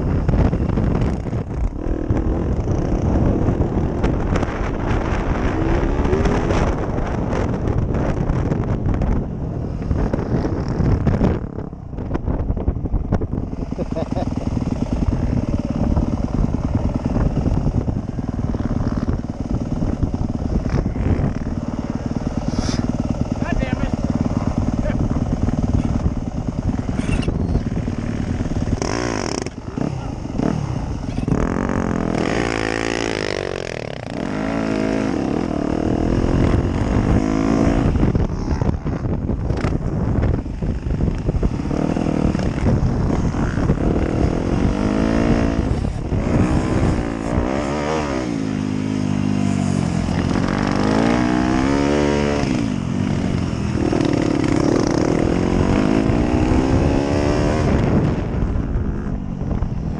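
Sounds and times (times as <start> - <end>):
dirt bike engine revving: 0.0 - 11.6, 13.2 - 59.2.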